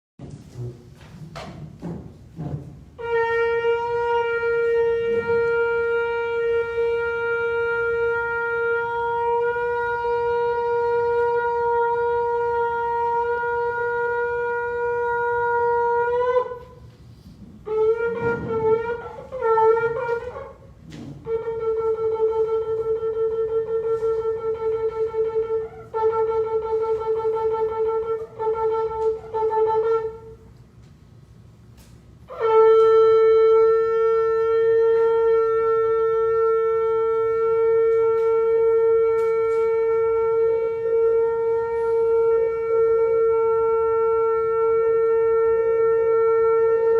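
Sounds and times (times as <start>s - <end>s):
ram's-horn trumpet blasts: 1.8s - 46.9s.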